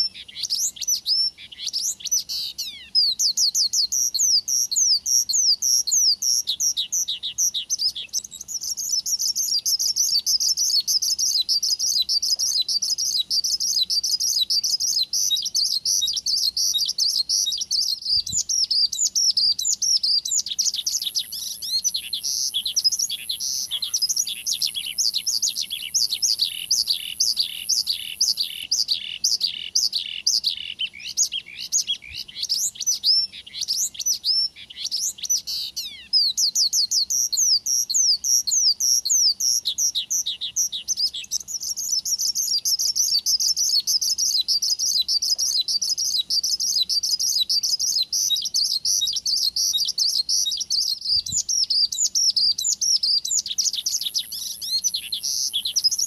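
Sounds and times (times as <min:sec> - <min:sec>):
bird singing high trill: 0:00.0 - 0:56.0.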